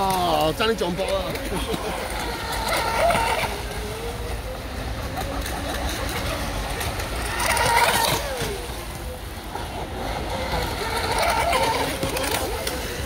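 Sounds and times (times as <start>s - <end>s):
radio-controlled boat motor whining: 0.0s - 13.0s.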